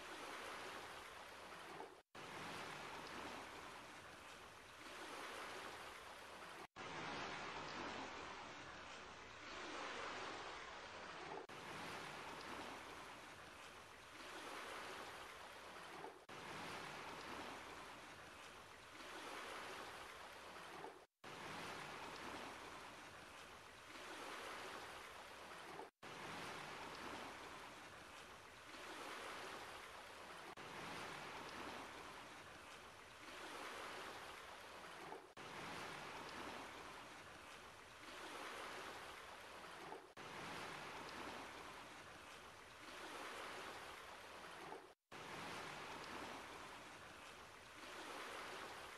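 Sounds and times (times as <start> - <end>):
faint rushing water-like noise: 0.0 - 48.9.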